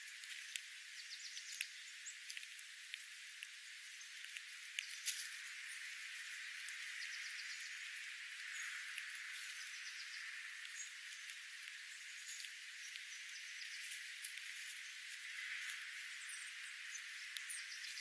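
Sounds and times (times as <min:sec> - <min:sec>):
small ticks: 0:00.0 - 0:18.0
steady outdoor hiss: 0:00.0 - 0:18.0
faint bird chirps: 0:00.4 - 0:02.3, 0:03.9 - 0:18.0.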